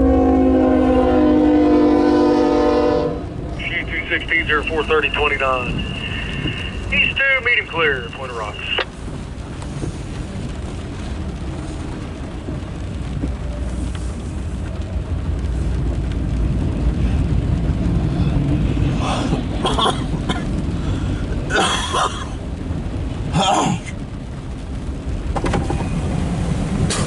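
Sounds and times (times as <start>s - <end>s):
freight train rumbling: 0.0s - 27.0s.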